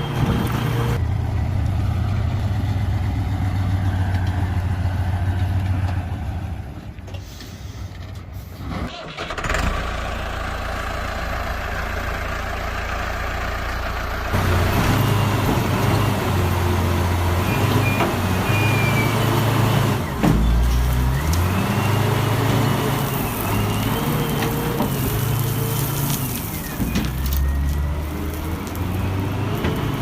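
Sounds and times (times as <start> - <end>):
heavy machinery engine droning: 0.0 - 7.8, 9.4 - 30.0.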